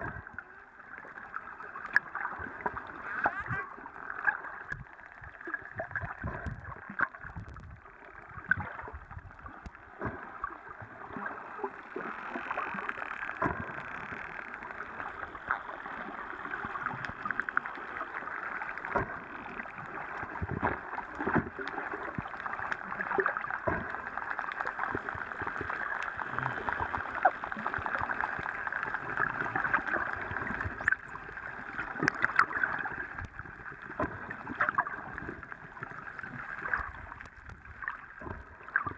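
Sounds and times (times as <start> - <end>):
dolphins clicking underwater: 6.2 - 38.9.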